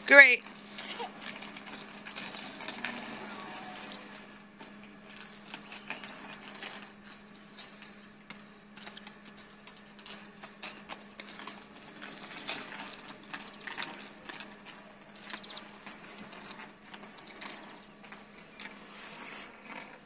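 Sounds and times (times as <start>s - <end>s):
faint steady hum: 0.0s - 20.0s
skate wheels rolling on asphalt: 0.0s - 20.0s
small clicks and clatters: 0.4s - 20.0s.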